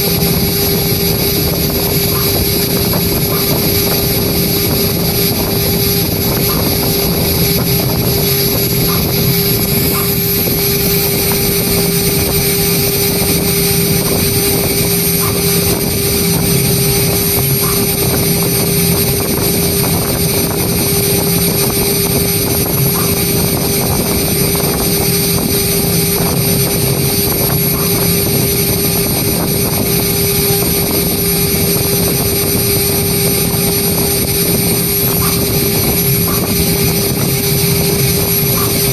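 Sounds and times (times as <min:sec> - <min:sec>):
engraving machine spindle running: 0:00.0 - 0:38.9.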